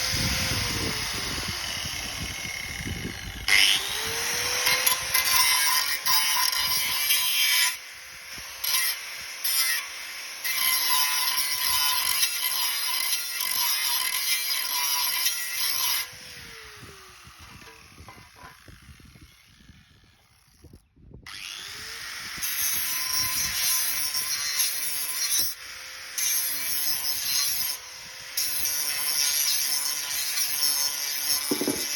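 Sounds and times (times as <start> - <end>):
power grinder grinding steel blade: 0.0 - 31.9.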